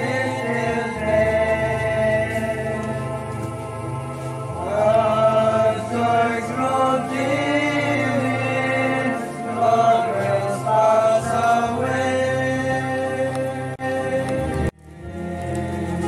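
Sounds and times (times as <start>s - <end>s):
chant-like choral singing: 0.0s - 16.0s
steady low drone: 0.0s - 16.0s.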